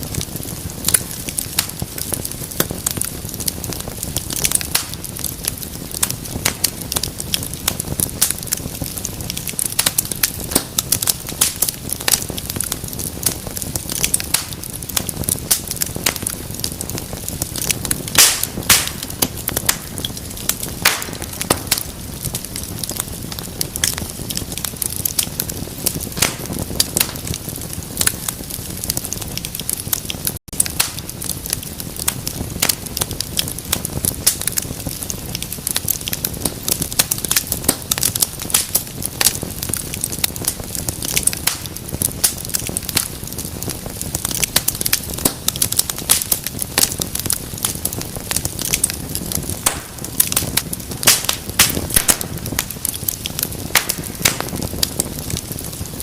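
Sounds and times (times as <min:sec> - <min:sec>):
rush of burning flames: 0:00.0 - 0:56.0
wood fire crackling and popping: 0:00.0 - 0:56.0.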